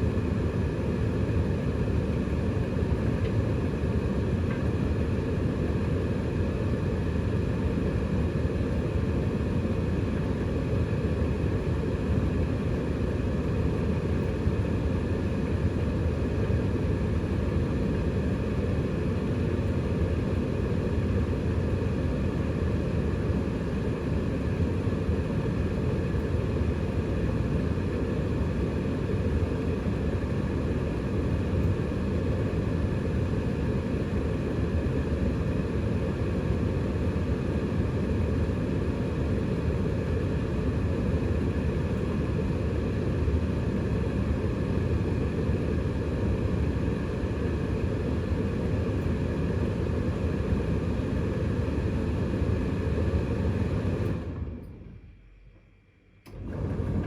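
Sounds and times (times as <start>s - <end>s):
washing machine spinning: 0.0s - 55.2s, 56.3s - 57.0s.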